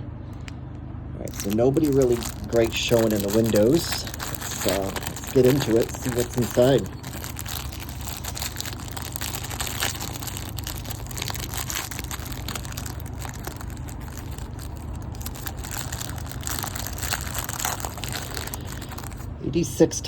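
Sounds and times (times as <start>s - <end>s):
plastic wrapper crinkling: 1.2s - 19.3s.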